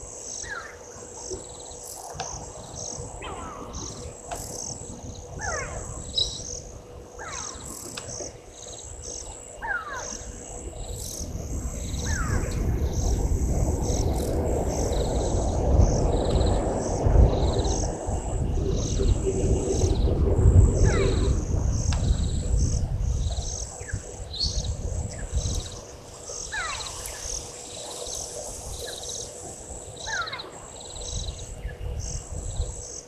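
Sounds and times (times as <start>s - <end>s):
insects buzzing in pulses: 0.0s - 33.0s.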